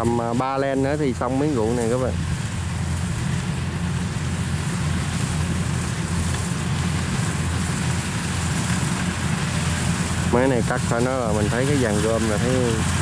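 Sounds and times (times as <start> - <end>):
diesel engine hum: 0.0 - 13.0.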